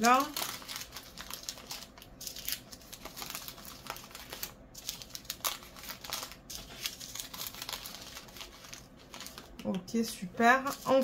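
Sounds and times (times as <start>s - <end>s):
plastic bags crinkling: 0.0s - 9.8s.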